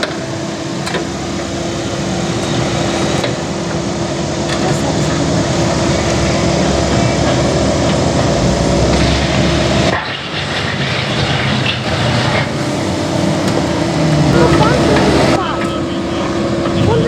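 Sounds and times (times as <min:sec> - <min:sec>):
excavator diesel engine: 0:00.0 - 0:17.0
hydraulic whine: 0:00.0 - 0:17.0.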